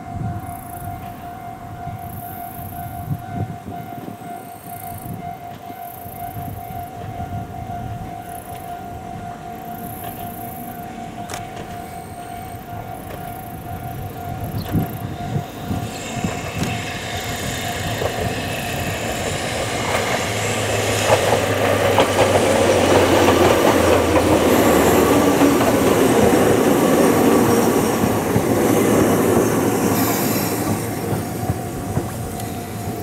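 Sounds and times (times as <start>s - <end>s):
train passing on track: 0.0s - 33.0s.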